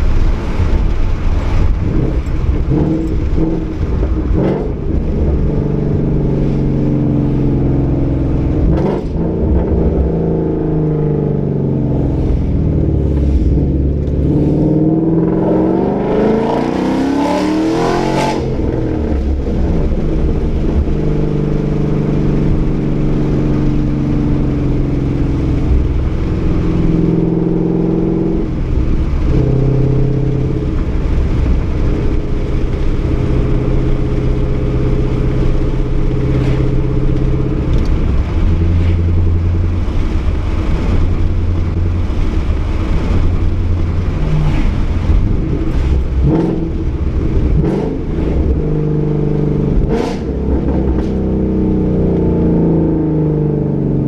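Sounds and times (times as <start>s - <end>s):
car exhaust while driving: 0.0s - 54.0s.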